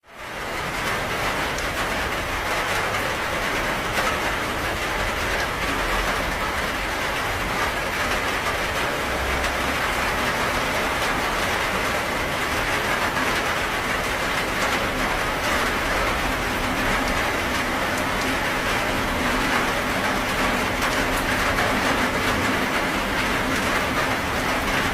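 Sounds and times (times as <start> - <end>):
steady rain falling: 0.0 - 24.9
raindrop ticks: 0.3 - 24.9.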